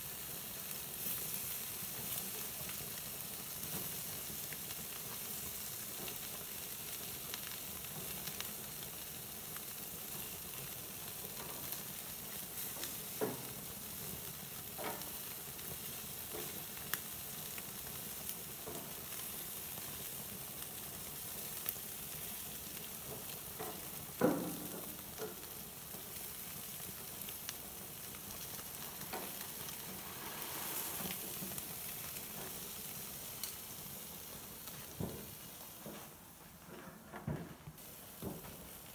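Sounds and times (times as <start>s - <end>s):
fish sizzling on a grill: 0.0s - 36.3s, 37.8s - 38.9s.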